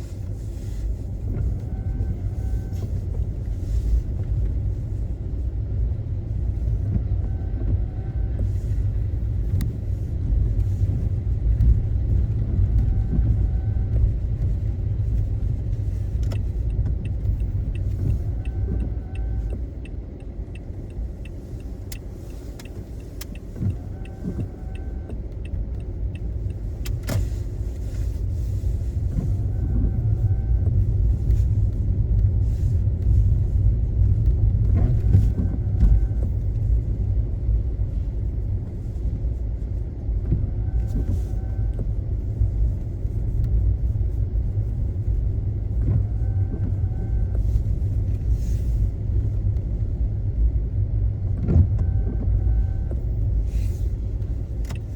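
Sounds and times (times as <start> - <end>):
road and tyre rumble: 0.0 - 54.9.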